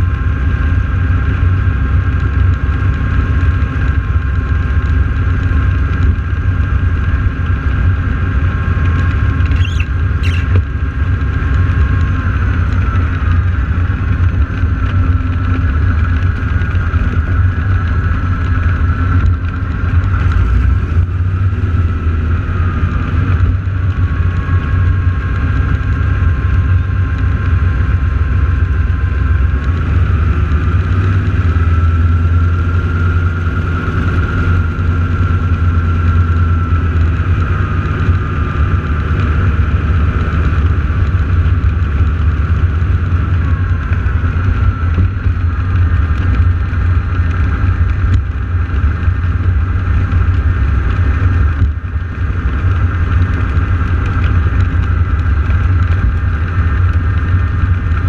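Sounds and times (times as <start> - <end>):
aircraft radial engines idling: 0.0 - 30.2, 30.8 - 58.0
faint engine whine: 0.0 - 58.0.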